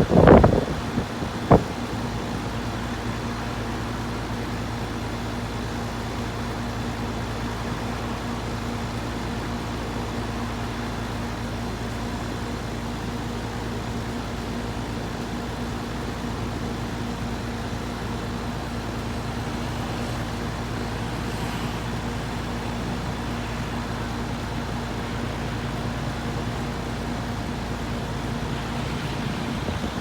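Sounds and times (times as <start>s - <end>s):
compressor hum: 0.0s - 30.0s
condenser fan rushing: 0.0s - 30.0s.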